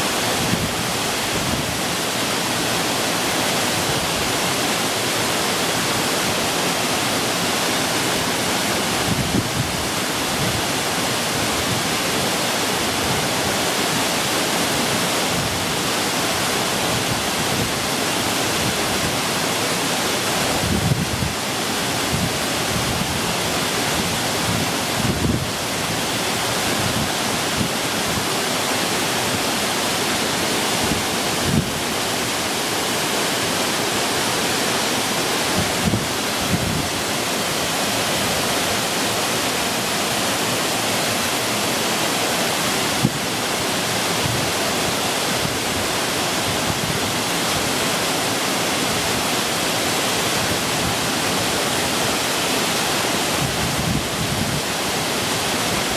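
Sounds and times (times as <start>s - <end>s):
small waterfall rushing: 0.0s - 55.9s.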